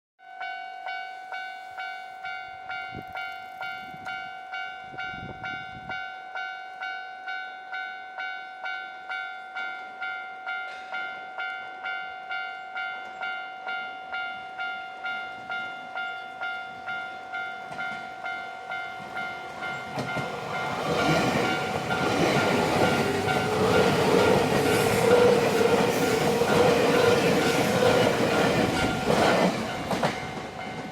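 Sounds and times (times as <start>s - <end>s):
level-crossing warning bell: 0.2s - 30.9s.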